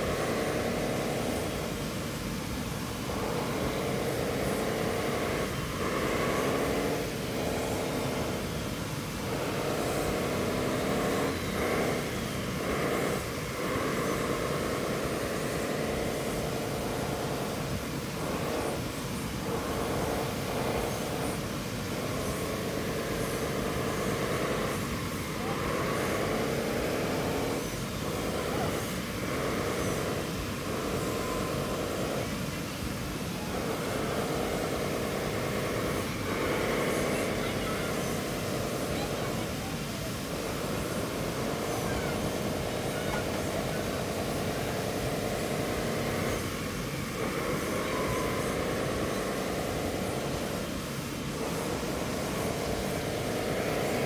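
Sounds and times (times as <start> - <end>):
electric motors whining: 2.9 - 54.0.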